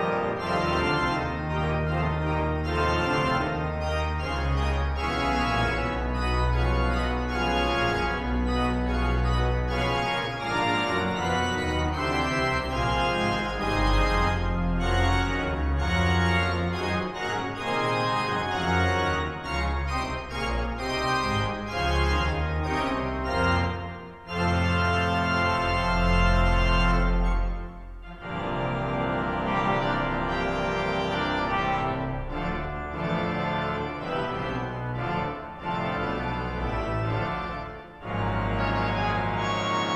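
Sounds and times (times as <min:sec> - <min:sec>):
pipe organ playing chords: 0:00.0 - 0:39.9.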